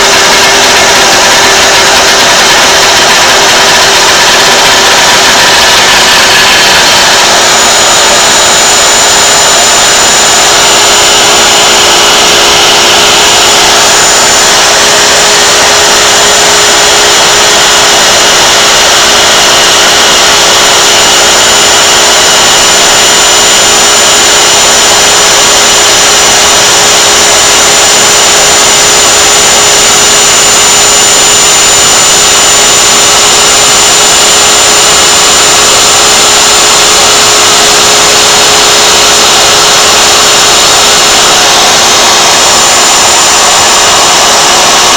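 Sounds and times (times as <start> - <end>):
router spindle carving wood: 0.0 - 44.9.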